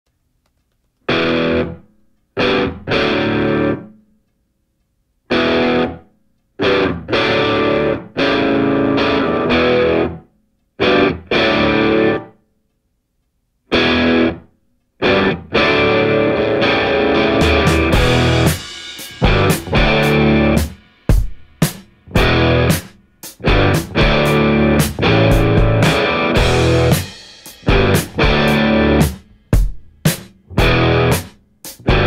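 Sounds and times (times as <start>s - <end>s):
distorted electric guitar chords: 1.1s - 1.8s, 2.4s - 3.9s, 5.3s - 6.0s, 6.6s - 10.2s, 10.8s - 12.4s, 13.7s - 32.0s.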